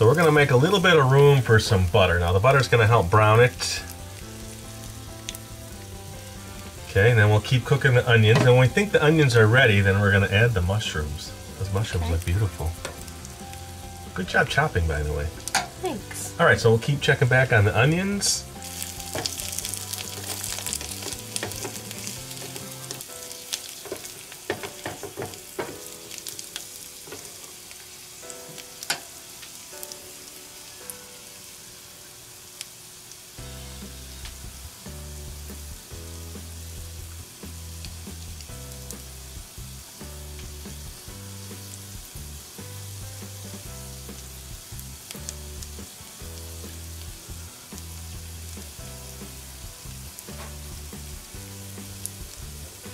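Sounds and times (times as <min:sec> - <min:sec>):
onions sizzling in a pan: 0:00.0 - 0:52.9
soft background music: 0:00.0 - 0:52.9.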